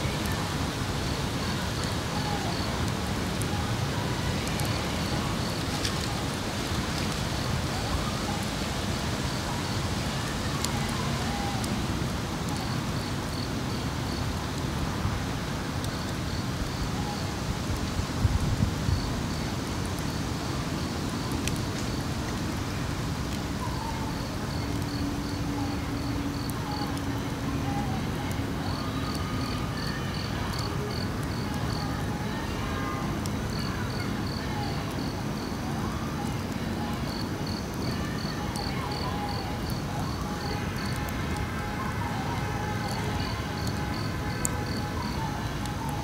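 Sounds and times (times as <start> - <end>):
steady rushing background noise: 0.0 - 46.0.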